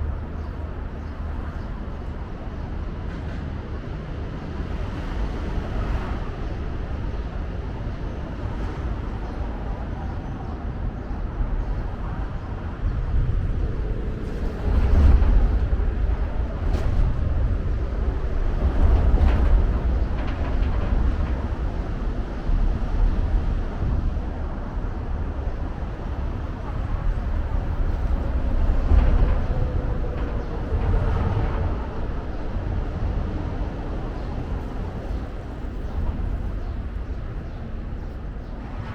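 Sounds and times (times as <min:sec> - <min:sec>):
low city rumble: 0:00.0 - 0:38.9.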